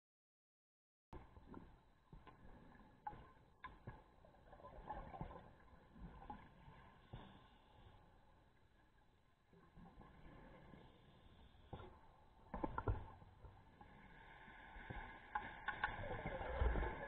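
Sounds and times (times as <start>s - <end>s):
muffled underwater rumble: 1.2s - 17.0s.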